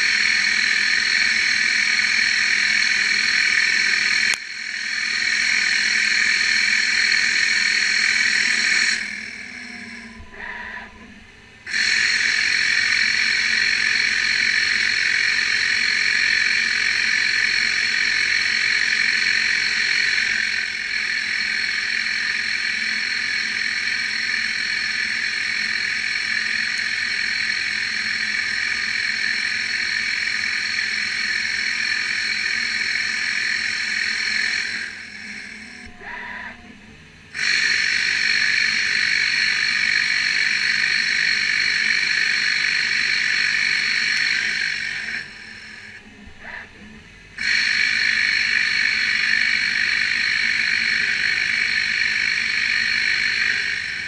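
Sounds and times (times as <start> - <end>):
lathe machining hiss and whine: 0.0 - 54.0.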